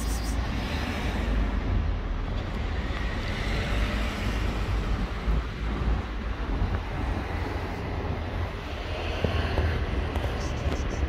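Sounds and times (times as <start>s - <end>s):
wind rumble on microphone: 0.6s - 11.0s.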